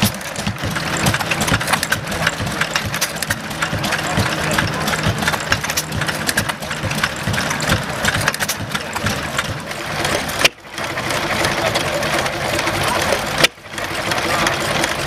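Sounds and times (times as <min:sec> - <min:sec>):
stationary engine ticking and clatter: 0:00.0 - 0:15.0.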